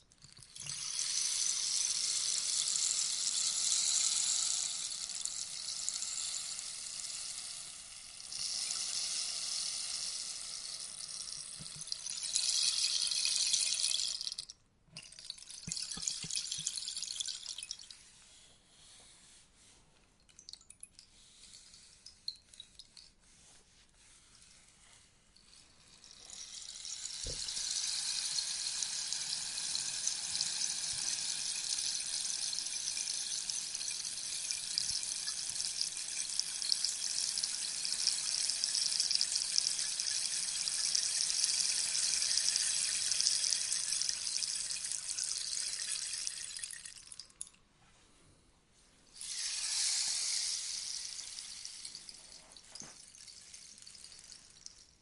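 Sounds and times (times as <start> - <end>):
rainstick pellets pattering: 0.4 - 18.0, 25.4 - 47.6, 49.2 - 55.0.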